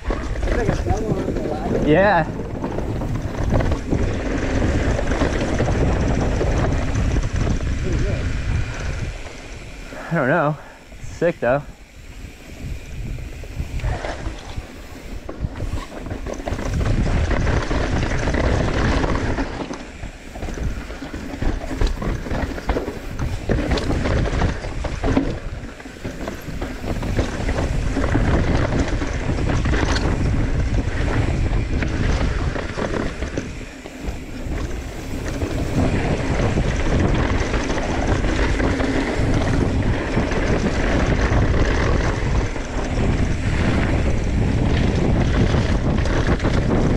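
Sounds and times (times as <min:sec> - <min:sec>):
bike knocks and rattles: 0:00.0 - 0:09.2, 0:12.7 - 0:46.9
bike tyres rolling over dirt: 0:00.0 - 0:46.9
wind on microphone: 0:00.0 - 0:46.9.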